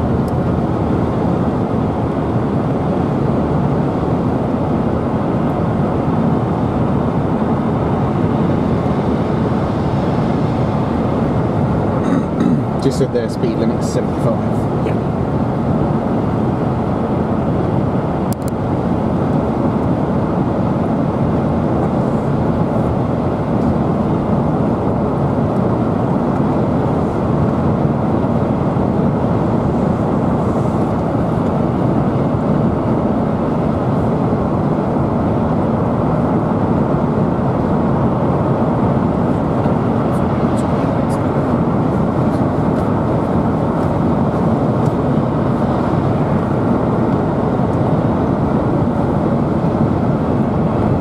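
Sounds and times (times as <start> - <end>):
road and engine noise in car: 0.0 - 51.0.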